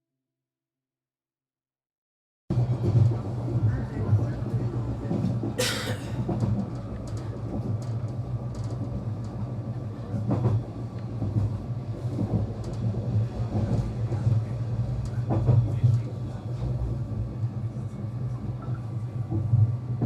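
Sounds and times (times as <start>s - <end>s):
train rumbling on track: 2.5s - 20.0s.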